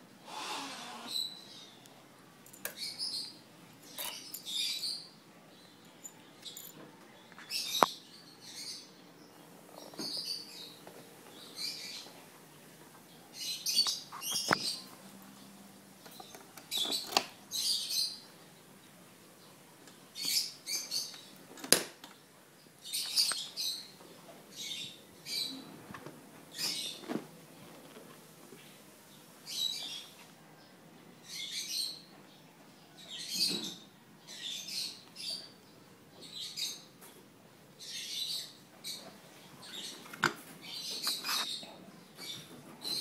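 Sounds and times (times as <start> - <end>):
birds chirping: 0.2 - 43.0.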